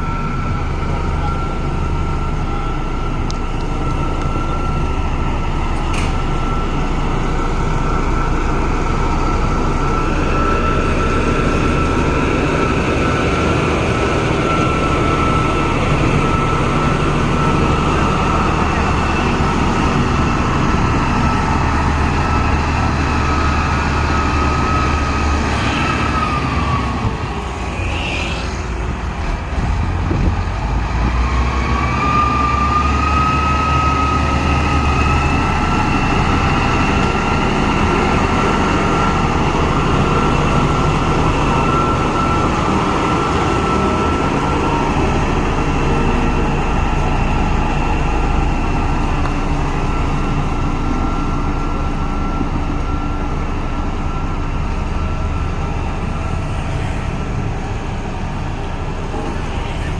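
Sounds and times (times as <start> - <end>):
bulldozer diesel engine whining: 0.0 - 59.9.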